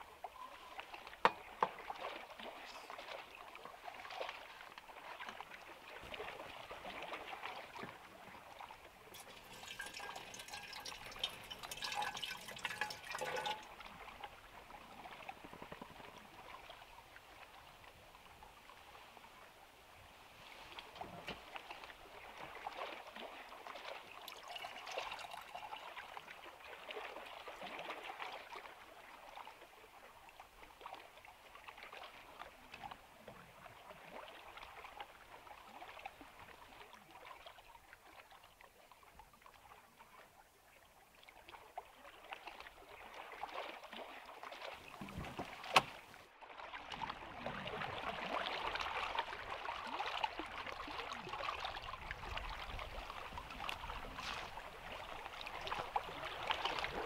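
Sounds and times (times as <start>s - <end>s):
water lapping at shore: 0.0s - 57.0s.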